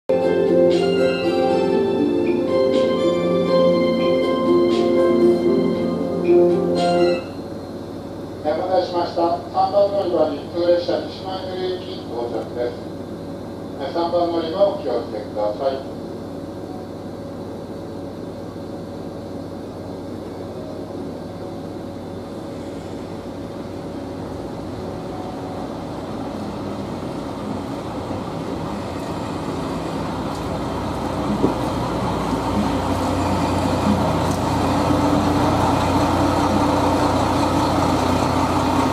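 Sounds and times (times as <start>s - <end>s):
diesel railcar engine drone: 0.1s - 38.9s.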